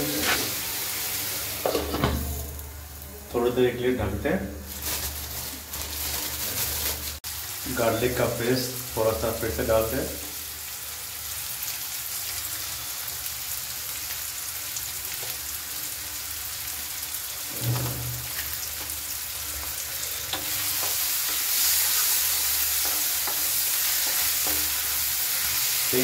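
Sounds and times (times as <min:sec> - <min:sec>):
onions sizzling in hot oil: 0:00.0 - 0:03.1, 0:04.6 - 0:26.0.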